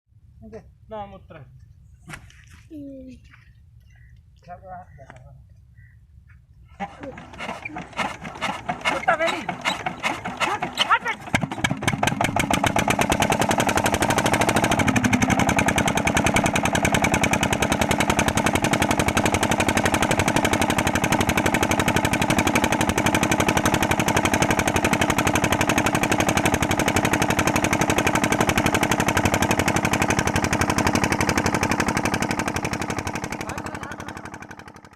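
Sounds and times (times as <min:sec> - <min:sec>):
diesel engine running: 0:06.6 - 0:34.9
exhaust popping: 0:06.8 - 0:34.9.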